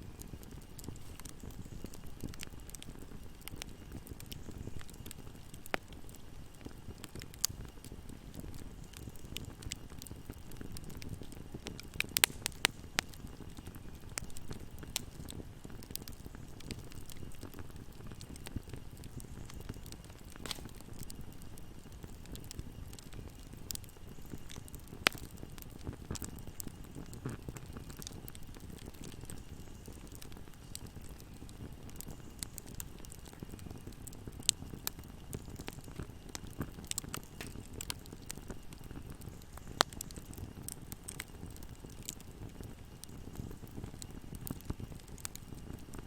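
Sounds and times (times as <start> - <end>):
fire crackling and popping: 0.0 - 46.0
fire flames rumbling: 0.0 - 46.0.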